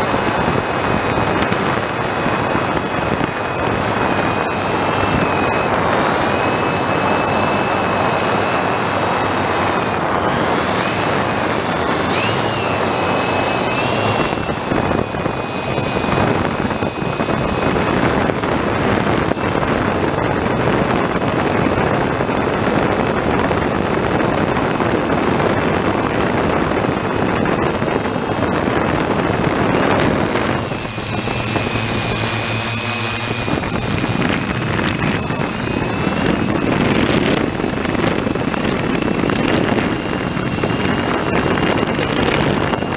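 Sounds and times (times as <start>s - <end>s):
drone propellers whirring: 0.0s - 42.9s
high motor whine: 0.0s - 42.9s.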